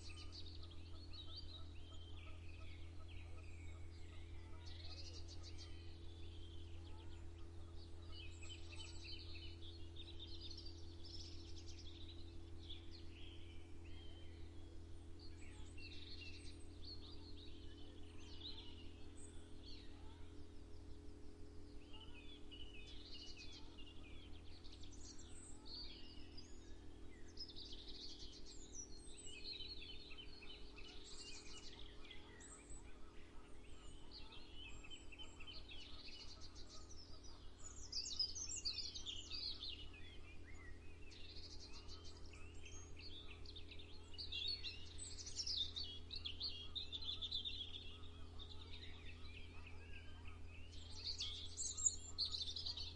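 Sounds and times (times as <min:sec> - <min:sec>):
songbirds singing and chirping: 0:00.0 - 0:52.9
steady low hum: 0:00.0 - 0:52.9.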